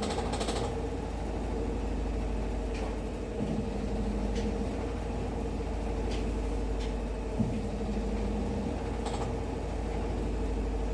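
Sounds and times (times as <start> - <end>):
washing machine droning: 0.0 - 10.9.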